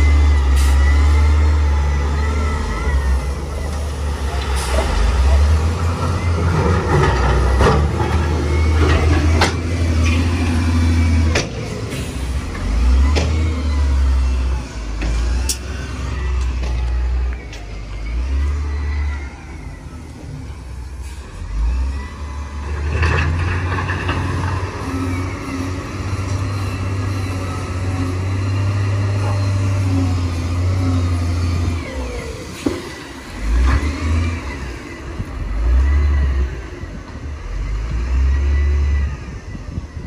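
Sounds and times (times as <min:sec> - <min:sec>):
heavy diesel machinery rumbling: 0:00.0 - 0:40.0.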